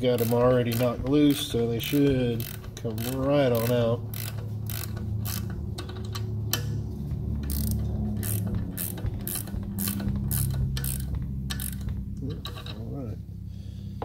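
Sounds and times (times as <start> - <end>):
ratchet wrench clicking: 0.0 - 6.8, 7.4 - 12.8
steady low hum: 0.0 - 14.0.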